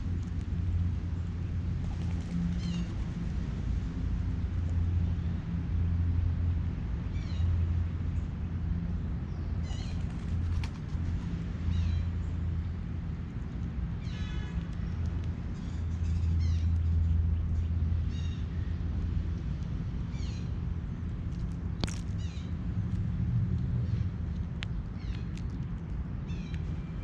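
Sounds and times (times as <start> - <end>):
steady low hum: 0.0 - 27.0
songbirds chirping and trilling: 0.6 - 3.1, 6.4 - 23.2, 23.8 - 27.0.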